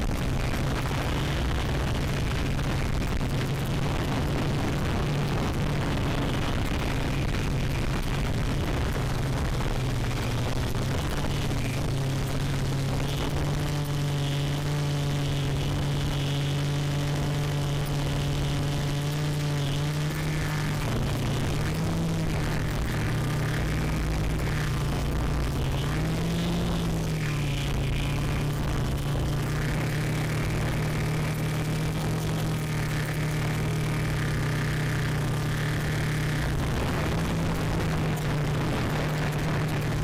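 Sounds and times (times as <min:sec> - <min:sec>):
drone propellers humming: 0:00.0 - 0:40.0.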